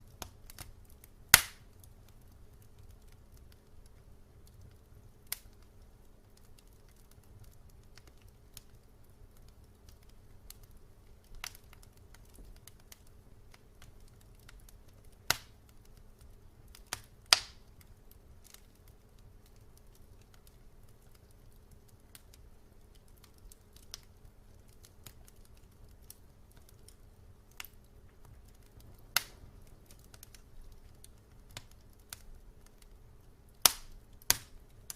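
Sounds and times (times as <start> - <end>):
faint low rumble: 0.0 - 34.9
wood fire crackling and popping: 0.0 - 34.9.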